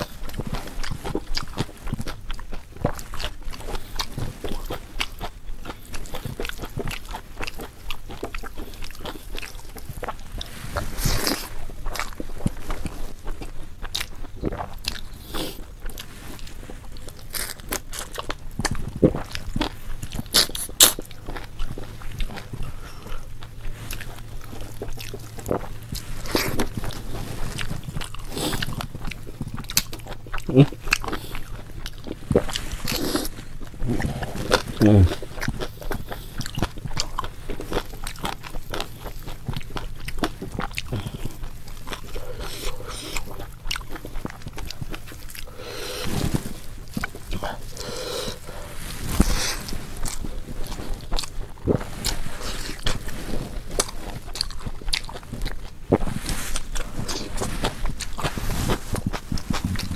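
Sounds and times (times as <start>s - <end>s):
person chewing with crunching bites: 0.0s - 59.9s.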